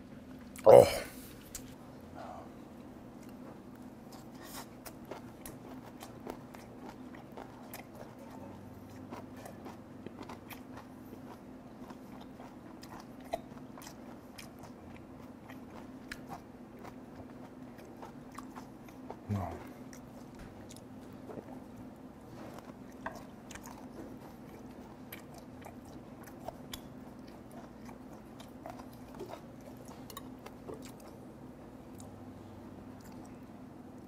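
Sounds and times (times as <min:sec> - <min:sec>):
steady low hum: 0:00.0 - 0:34.0
chewing crunches and clicks: 0:03.2 - 0:31.2, 0:31.9 - 0:32.2, 0:32.8 - 0:34.0.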